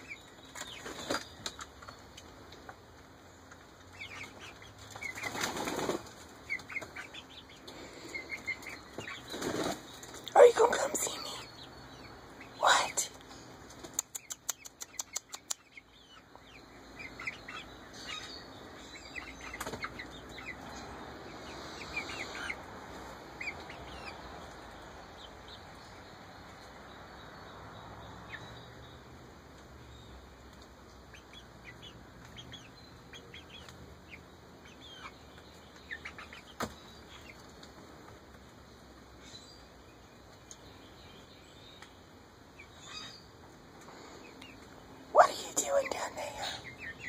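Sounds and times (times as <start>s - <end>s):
chicks peeping: 0.0s - 47.0s.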